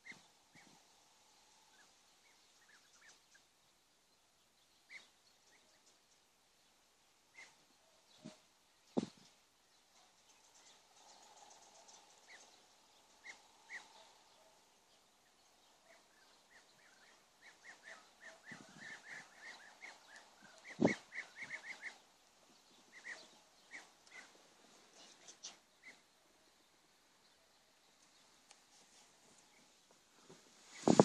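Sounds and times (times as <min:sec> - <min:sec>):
birds calling: 0:00.0 - 0:29.9, 0:30.6 - 0:31.0.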